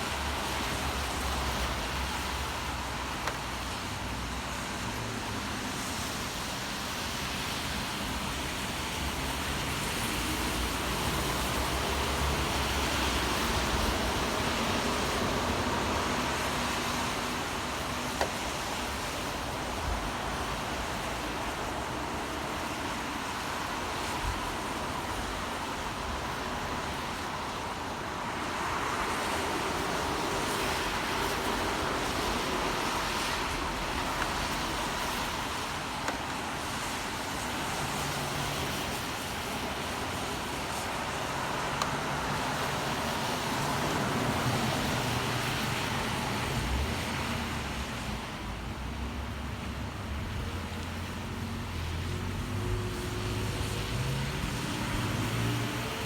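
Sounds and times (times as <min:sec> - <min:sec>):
rain: 0:00.0 - 0:56.0
road traffic: 0:00.0 - 0:56.0.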